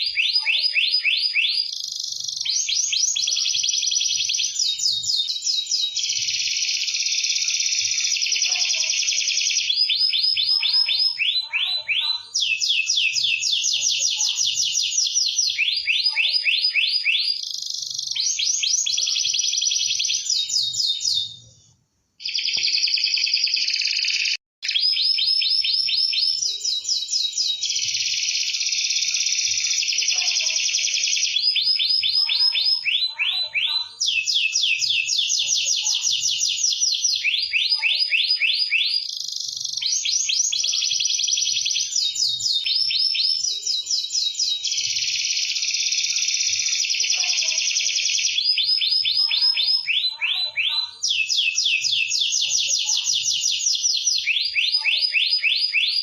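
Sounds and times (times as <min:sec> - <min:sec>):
canary singing trills: 0:00.0 - 0:21.6, 0:22.2 - 0:56.0.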